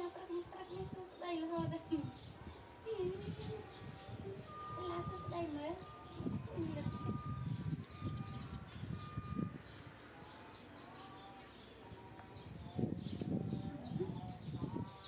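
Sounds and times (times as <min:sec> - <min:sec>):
birds chirping and cooing: 0:00.0 - 0:15.0.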